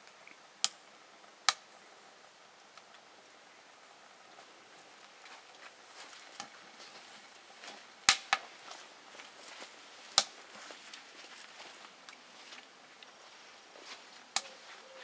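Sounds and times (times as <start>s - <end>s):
fire crackling in a stove: 0.0s - 15.0s.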